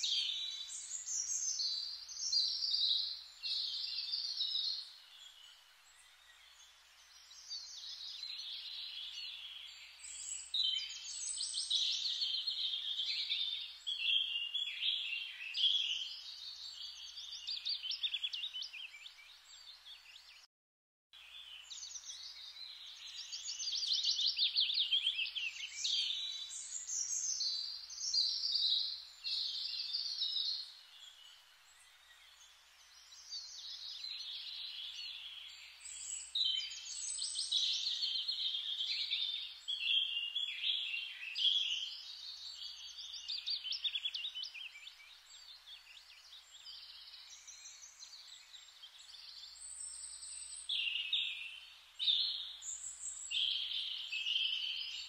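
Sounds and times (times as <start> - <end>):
birds chirping and singing: 0.0 - 20.4, 21.3 - 55.0.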